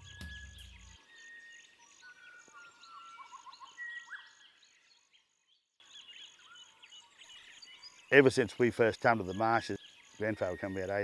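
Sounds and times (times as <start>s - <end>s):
birds chirping and whistling: 0.0s - 11.0s
faint high insect chirping: 0.0s - 11.0s.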